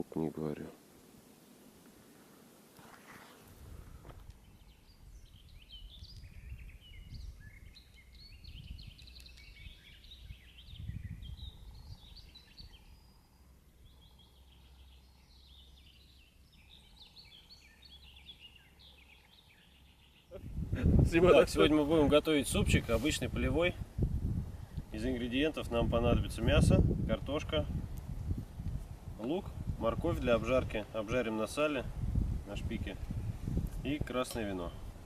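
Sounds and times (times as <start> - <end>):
birds chirping: 3.0 - 35.0.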